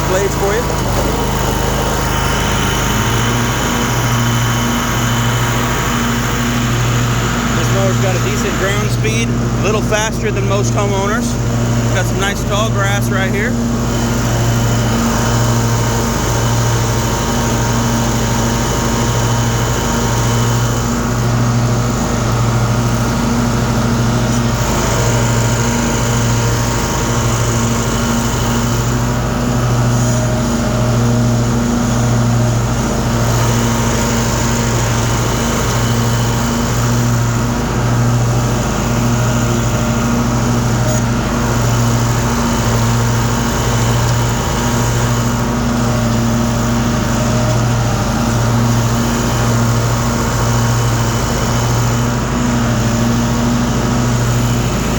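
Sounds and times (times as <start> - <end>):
lawn mower engine droning: 0.0 - 54.9.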